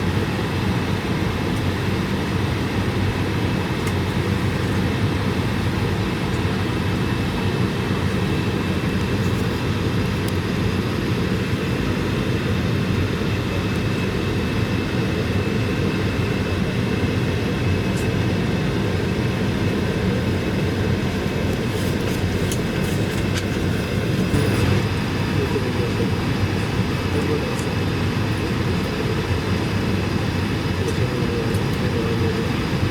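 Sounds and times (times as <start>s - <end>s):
aircraft cabin engine rumble: 0.0s - 32.9s.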